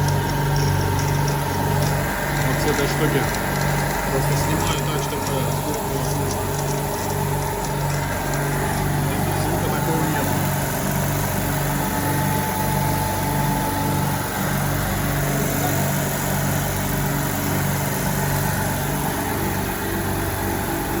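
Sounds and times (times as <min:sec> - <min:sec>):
compressor humming: 0:00.0 - 0:21.0
low pulsing drone: 0:00.0 - 0:21.0.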